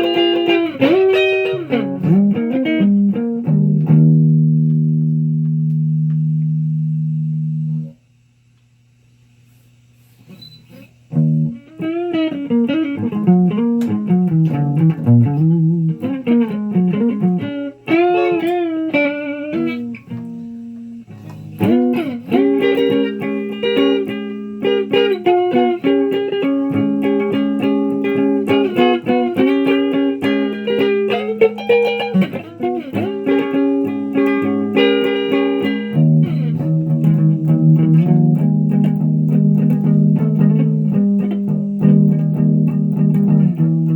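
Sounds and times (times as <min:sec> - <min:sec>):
electric guitar playing: 0:00.0 - 0:08.0, 0:10.3 - 0:43.9.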